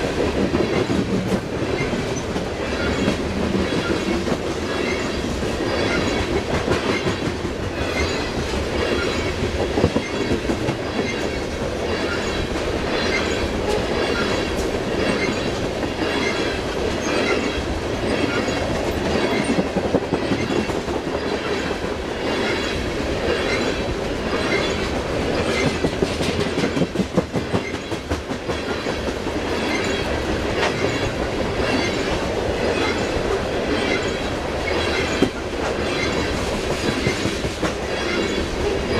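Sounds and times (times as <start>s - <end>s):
freight train rumbling past: 0.0s - 38.9s
wheels clickety-clack: 0.0s - 38.9s.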